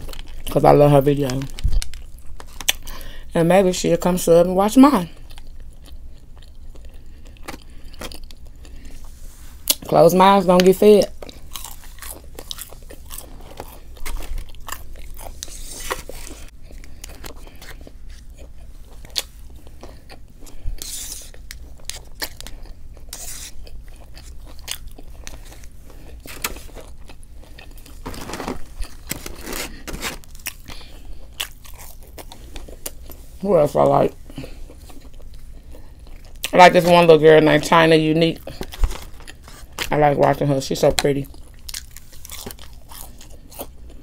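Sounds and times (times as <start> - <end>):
person chewing food: 0.0 - 0.5, 1.4 - 3.2, 5.0 - 9.9, 10.6 - 44.0.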